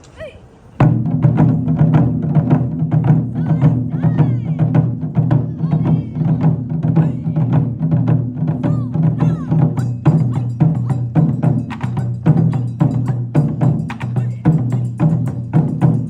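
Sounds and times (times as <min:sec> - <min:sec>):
taiko drums beaten fast: 0:00.8 - 0:16.0.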